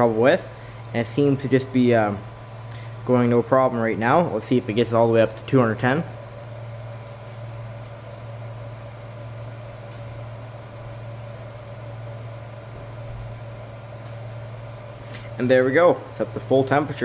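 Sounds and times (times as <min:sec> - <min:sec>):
cooling fans humming: 0:00.0 - 0:17.0
faint high whine: 0:00.0 - 0:17.0.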